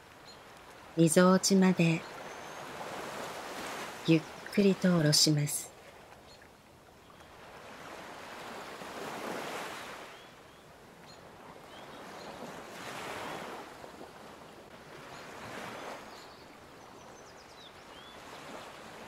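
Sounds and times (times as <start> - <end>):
gentle surf: 0.0 - 19.0.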